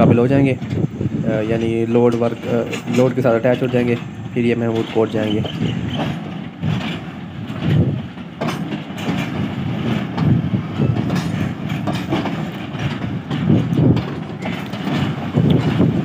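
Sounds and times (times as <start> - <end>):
freight train rumbling: 0.0 - 16.0
wheels clacking on rail joints: 0.0 - 16.0.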